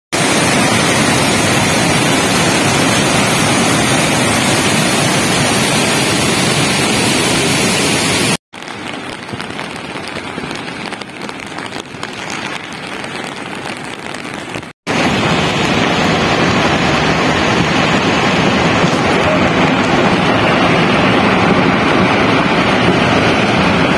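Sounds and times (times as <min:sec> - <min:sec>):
floodwater rushing over boulders: 0:00.1 - 0:23.9.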